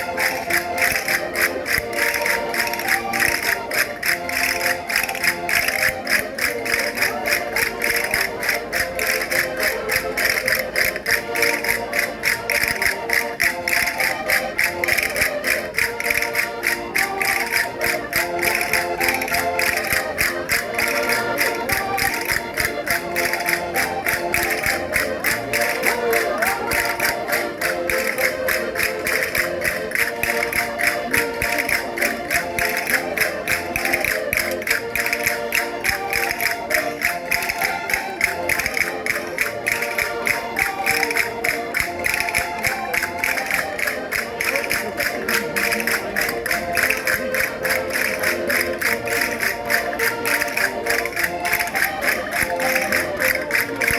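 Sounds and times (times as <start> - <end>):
concertinas playing folk dance: 0.0 - 53.9
percussion beat: 0.0 - 53.9.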